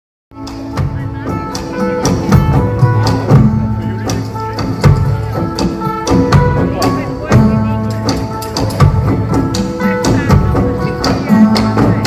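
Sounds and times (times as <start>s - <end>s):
plucked string instruments: 0.3s - 12.0s
drum strikes: 0.4s - 12.0s.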